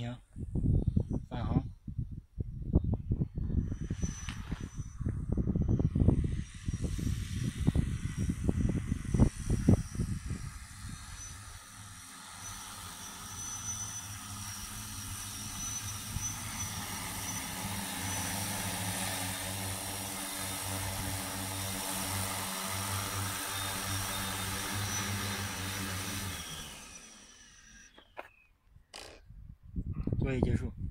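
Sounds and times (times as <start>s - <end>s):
drone propellers humming: 3.4s - 28.4s.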